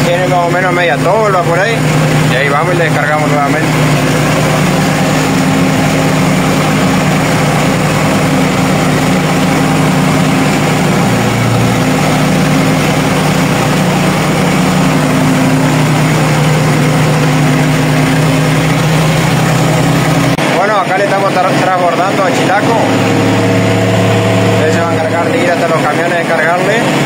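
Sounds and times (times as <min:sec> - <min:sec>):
tractor diesel engine hum: 0:00.0 - 0:27.0.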